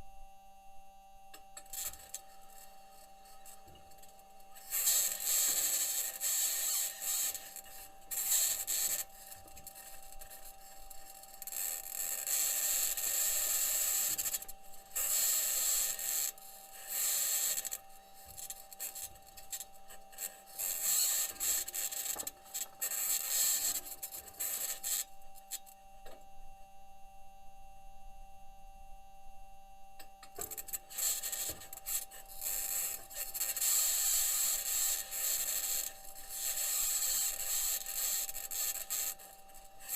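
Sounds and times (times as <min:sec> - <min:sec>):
steady electronic whine: 0:00.0 - 0:39.9.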